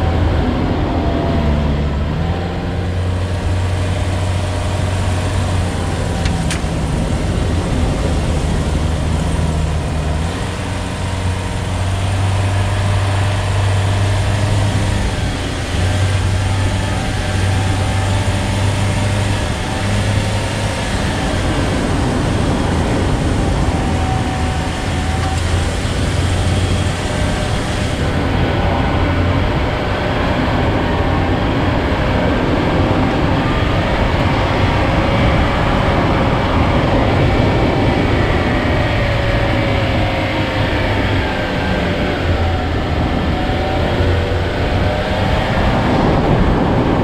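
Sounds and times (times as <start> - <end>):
road noise: 0.0 - 47.0
vehicle engine humming: 0.0 - 47.0.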